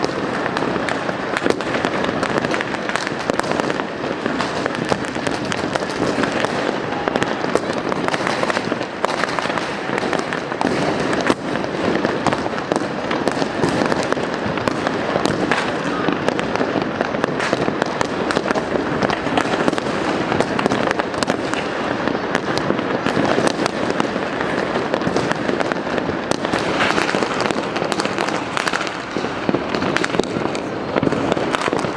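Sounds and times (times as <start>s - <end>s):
fireworks and firecrackers crackling: 0.0s - 31.9s.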